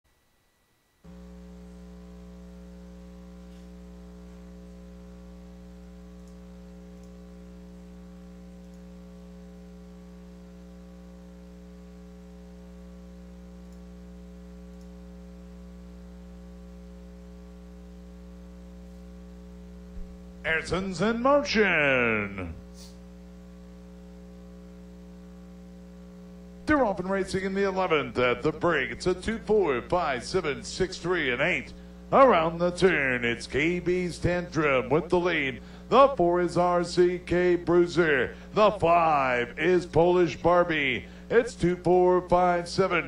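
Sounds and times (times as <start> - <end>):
electrical mains hum: 0.1 - 43.0.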